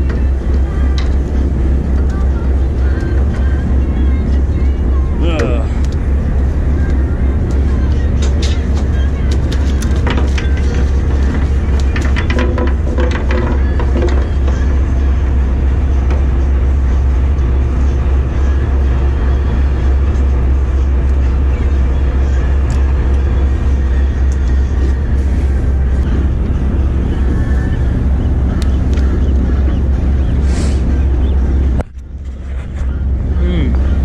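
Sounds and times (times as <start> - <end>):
boat engine drone: 0.0 - 34.0.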